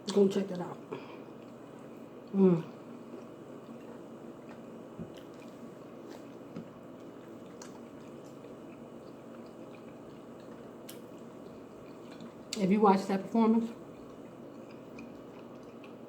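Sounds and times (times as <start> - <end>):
person chewing food: 1.1 - 12.6, 13.7 - 16.0.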